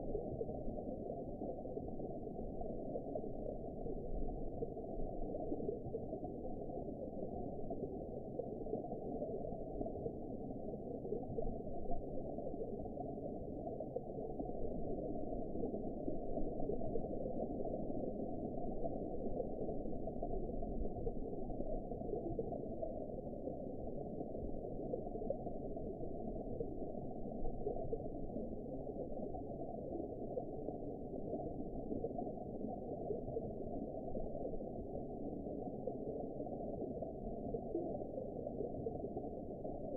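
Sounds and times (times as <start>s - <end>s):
faint gurgle: 0.0s - 39.9s
muffled underwater rush: 0.0s - 39.9s.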